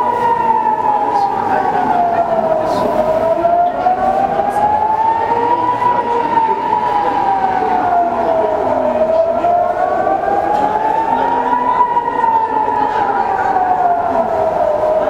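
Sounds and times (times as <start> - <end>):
air-raid siren wailing: 0.0 - 15.0.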